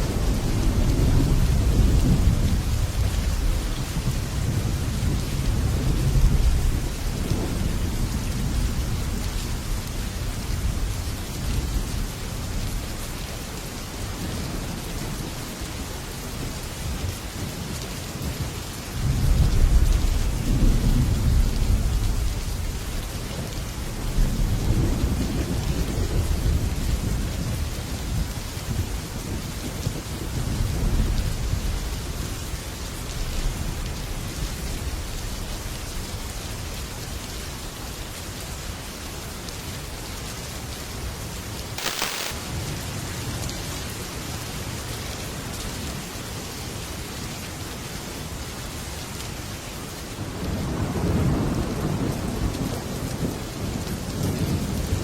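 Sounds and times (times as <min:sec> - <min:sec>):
heavy rain on a metal roof: 0:00.0 - 0:55.0.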